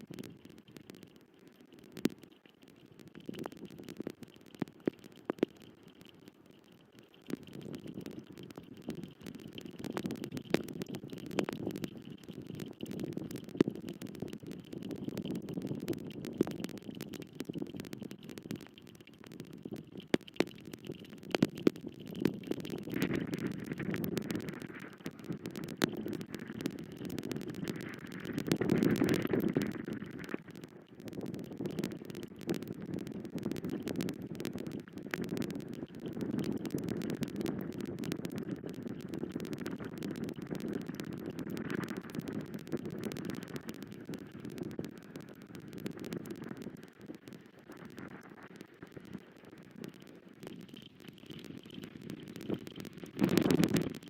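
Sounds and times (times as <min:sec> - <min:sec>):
sharp clicks and ticks: 0:00.0 - 0:54.0.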